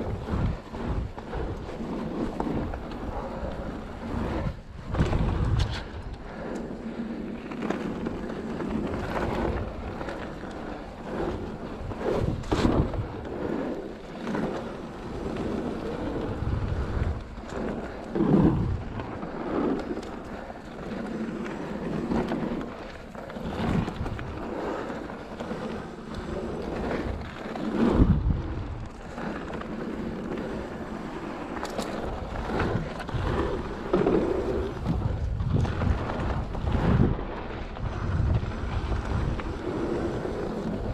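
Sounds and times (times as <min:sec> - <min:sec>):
wind on microphone: 0:00.0 - 0:20.2, 0:21.3 - 0:31.1, 0:31.8 - 0:40.9
bike rattling over bumps: 0:00.0 - 0:40.9
bike tyres on loose gravel: 0:00.0 - 0:40.9.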